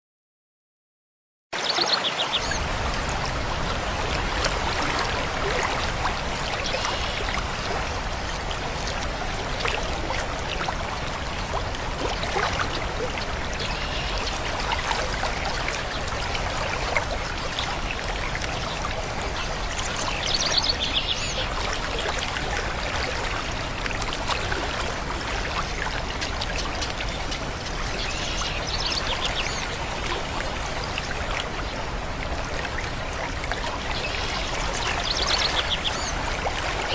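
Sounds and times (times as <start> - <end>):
water babbling and trickling: 1.6 - 36.9.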